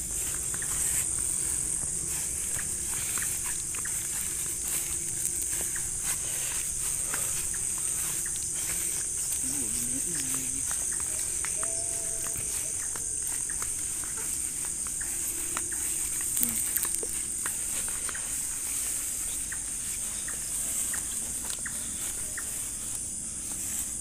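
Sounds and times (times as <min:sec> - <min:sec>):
footsteps brushing through grass: 0:00.0 - 0:24.0
night insects chorus: 0:00.0 - 0:24.0.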